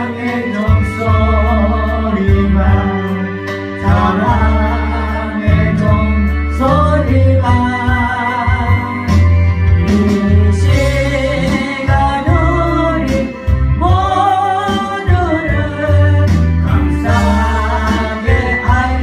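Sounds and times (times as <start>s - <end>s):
gospel song with accompaniment: 0.0s - 19.0s.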